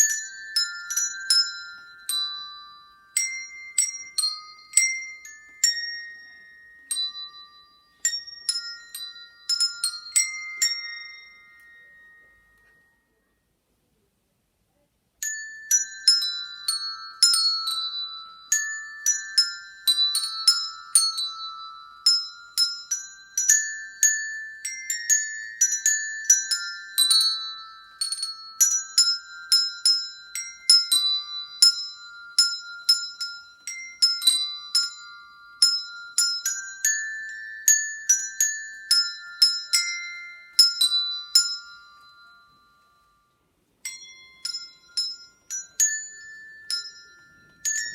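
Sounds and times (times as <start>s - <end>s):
handbells playing a tune: 0.0s - 13.6s, 15.2s - 47.9s.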